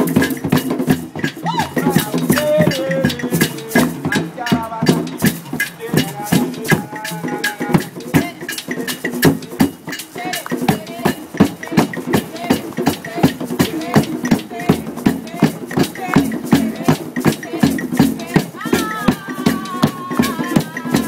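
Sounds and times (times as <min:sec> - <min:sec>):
hand drums playing: 0:00.0 - 0:21.0
voices calling and singing: 0:00.0 - 0:21.0.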